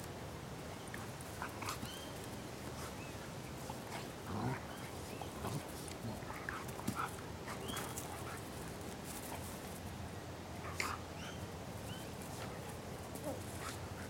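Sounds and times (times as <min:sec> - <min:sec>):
dogs play-fighting noises: 0:00.7 - 0:14.0.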